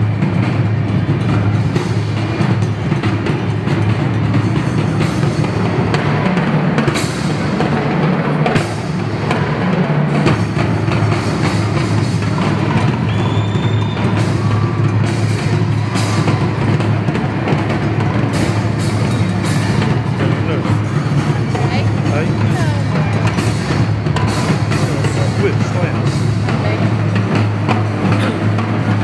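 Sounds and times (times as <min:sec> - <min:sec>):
loud amplified stage music: 0:00.0 - 0:29.0.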